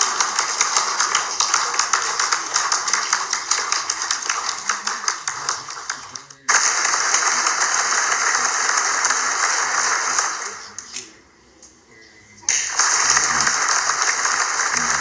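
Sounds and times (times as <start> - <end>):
crowd applause: 0.0 - 10.8, 12.5 - 15.0.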